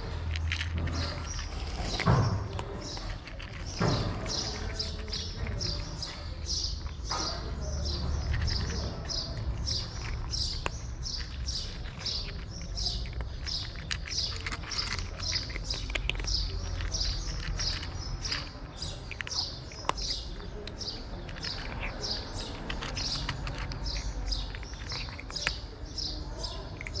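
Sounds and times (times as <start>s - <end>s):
cat chewing dry kibble: 0.0s - 27.0s
small bird chirping: 0.7s - 27.0s.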